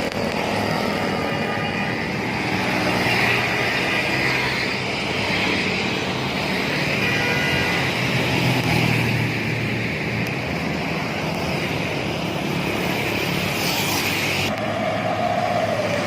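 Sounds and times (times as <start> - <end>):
diesel vehicle passing: 0.0 - 16.0
highway road roar: 0.0 - 16.0.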